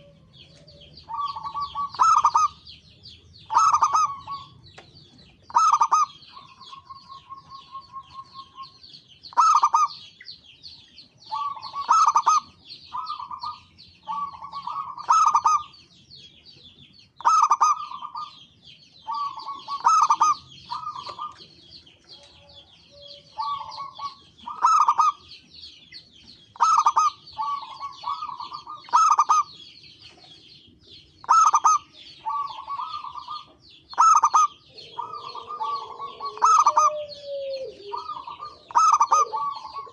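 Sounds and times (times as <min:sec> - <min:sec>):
dove cooing: 0:00.0 - 0:02.8, 0:03.4 - 0:04.8, 0:05.4 - 0:10.1, 0:11.2 - 0:15.7, 0:17.2 - 0:18.4, 0:19.0 - 0:25.3, 0:26.6 - 0:30.3, 0:31.2 - 0:39.9
high-pitched bird chirping: 0:00.0 - 0:39.9.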